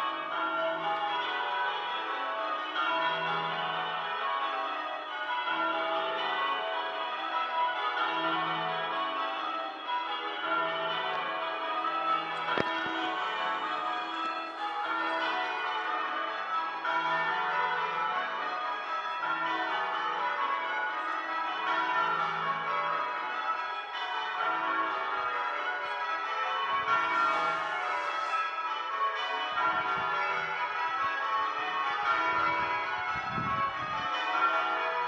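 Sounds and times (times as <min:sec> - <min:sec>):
church bells ringing: 0:00.0 - 0:35.0.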